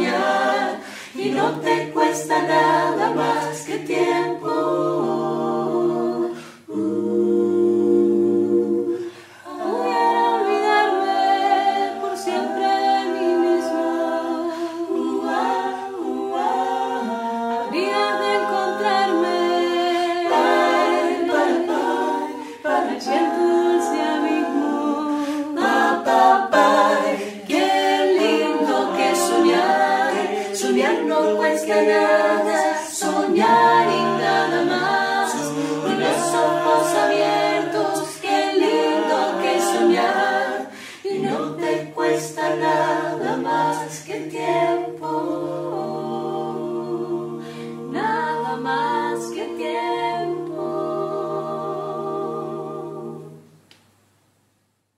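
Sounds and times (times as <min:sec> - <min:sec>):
mixed group singing a cappella: 0:00.0 - 0:53.8.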